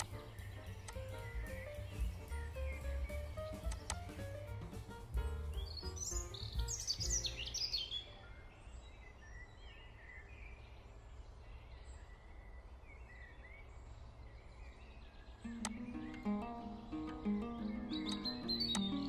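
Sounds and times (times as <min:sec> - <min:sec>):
birds chirping: 0:00.0 - 0:19.0
quiet background music: 0:00.0 - 0:19.0
steady low hiss: 0:00.0 - 0:19.0.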